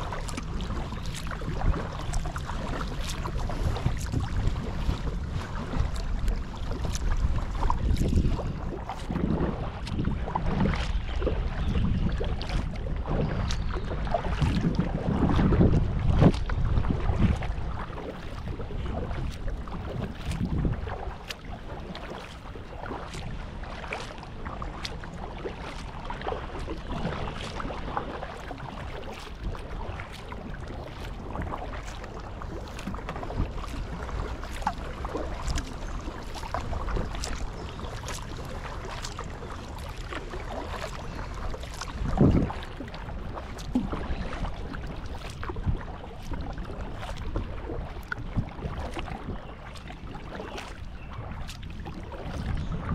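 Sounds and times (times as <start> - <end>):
low wind rumble: 0.0 - 22.0, 27.7 - 50.2, 50.9 - 52.9
paddle splashing and dripping water: 0.0 - 52.9.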